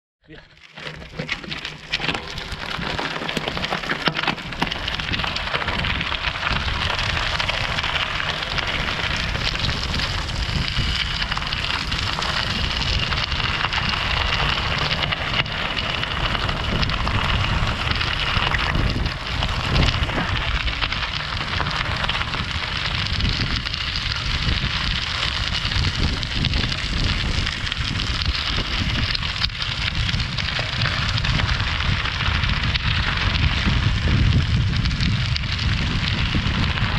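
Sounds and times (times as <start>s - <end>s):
bicycle tyres crunching on gravel: 0.3s - 36.9s.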